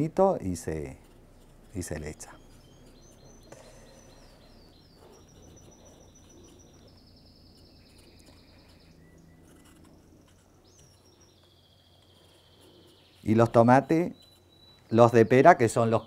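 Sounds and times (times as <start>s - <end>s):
faint low hum: 0.0s - 16.0s
songbird trilling: 1.8s - 9.6s, 10.6s - 16.0s.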